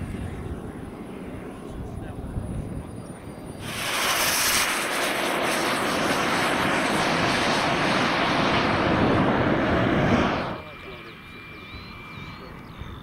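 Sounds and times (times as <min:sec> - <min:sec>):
model jet turbine roaring: 0:00.0 - 0:13.0.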